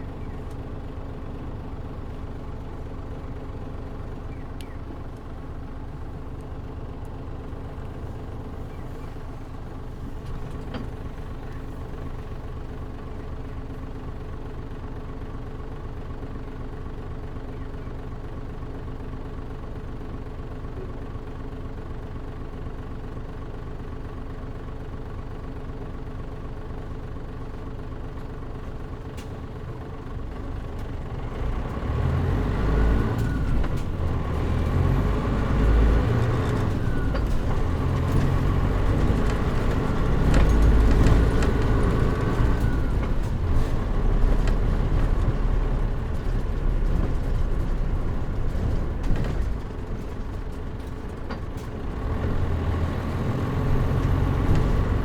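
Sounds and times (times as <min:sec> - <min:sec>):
bus diesel engine rumble: 0:00.0 - 0:55.0.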